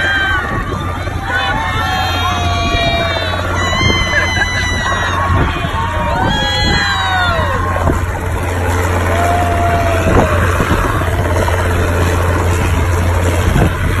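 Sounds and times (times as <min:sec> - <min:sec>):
helicopter running: 0:00.0 - 0:14.0.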